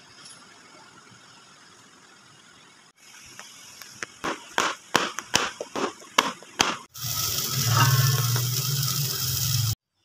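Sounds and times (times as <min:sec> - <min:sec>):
steady hiss: 0:00.0 - 0:09.8.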